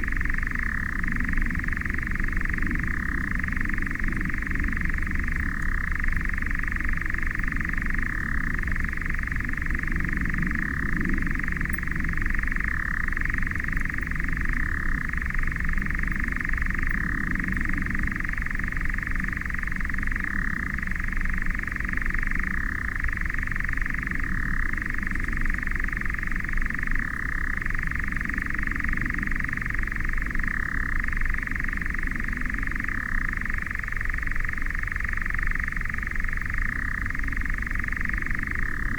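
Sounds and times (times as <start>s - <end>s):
low steady rumble: 0.0s - 38.9s
nightjar churring trill: 0.0s - 38.9s.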